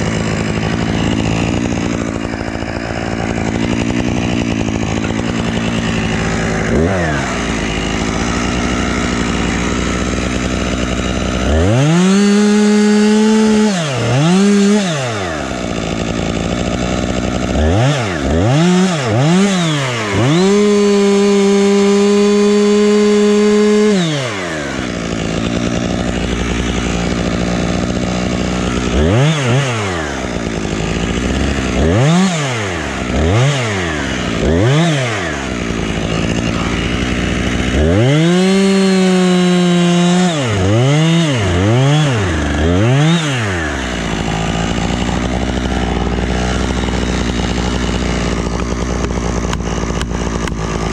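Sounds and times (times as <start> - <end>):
chainsaw revving and idling: 0.0 - 50.9.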